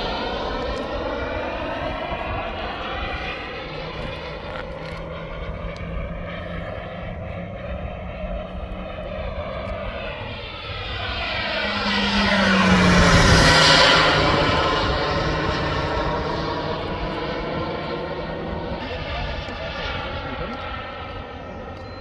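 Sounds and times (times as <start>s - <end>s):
model jet turbine whine: 0.0s - 22.0s.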